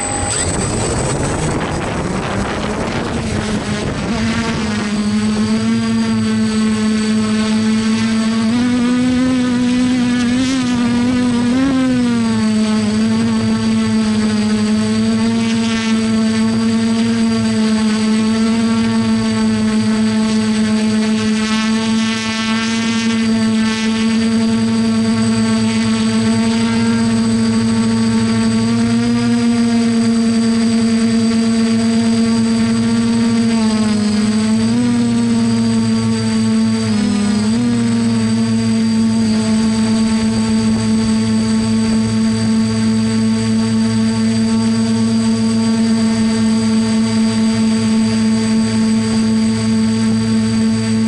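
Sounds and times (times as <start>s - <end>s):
drone motors whining: 0.0s - 51.0s.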